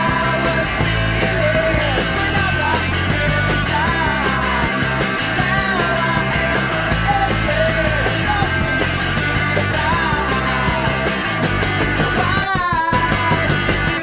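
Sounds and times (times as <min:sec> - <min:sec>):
full band playing: 0:00.0 - 0:14.0
rock song with sung vocals: 0:00.0 - 0:14.0.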